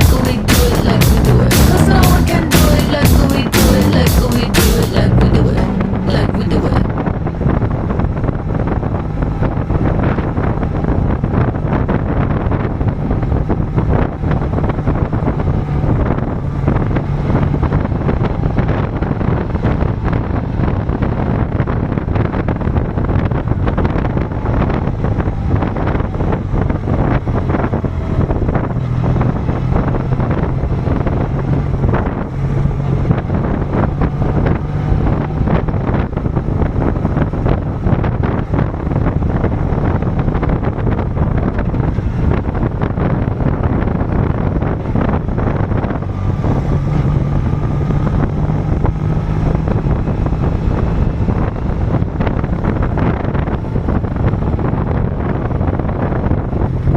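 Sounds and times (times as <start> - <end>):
motorcycle engine running: 0.0 - 56.9
wind buffeting microphone: 5.0 - 56.9.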